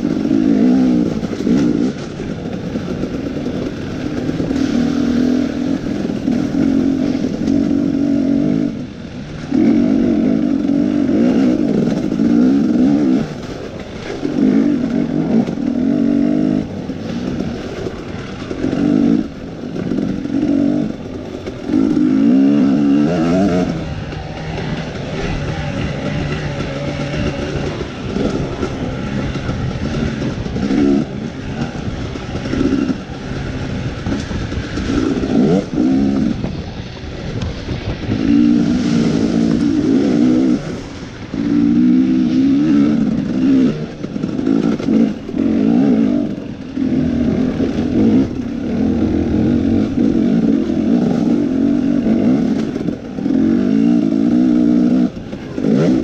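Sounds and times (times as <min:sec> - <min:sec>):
dirt bike engine revving: 0:00.0 - 0:56.0
knocks and clatter from bike: 0:00.0 - 0:56.0.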